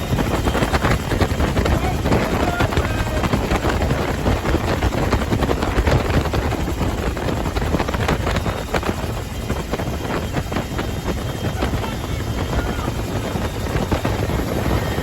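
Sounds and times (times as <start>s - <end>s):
helicopter engine and rotor: 0.0s - 15.0s
wind buffeting microphone: 0.0s - 15.0s.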